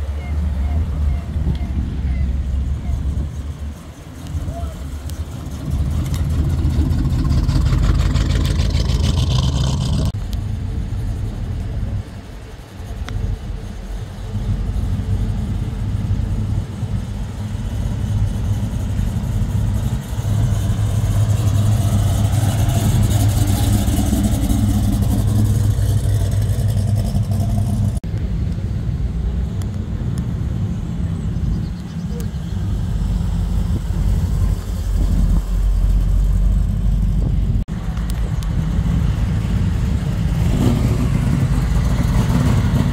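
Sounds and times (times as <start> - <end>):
car engines rumbling past: 0.0 - 42.9.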